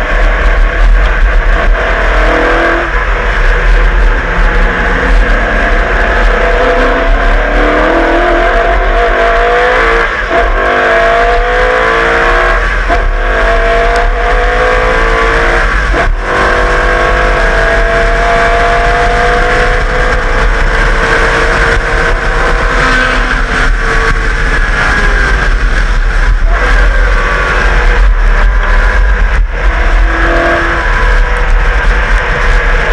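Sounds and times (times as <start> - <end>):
race car engine accelerating: 0.0 - 32.9.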